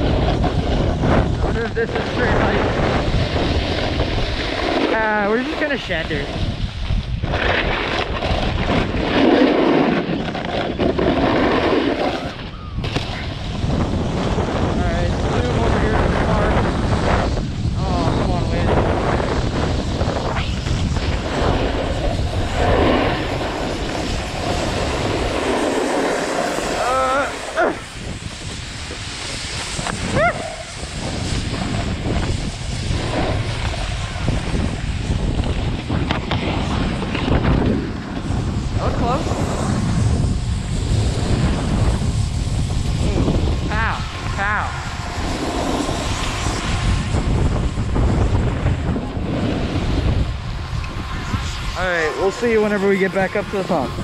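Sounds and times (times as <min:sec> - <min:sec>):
snowboard scraping over snow: 0:00.0 - 0:54.0
wind rumbling on microphone: 0:00.0 - 0:54.0.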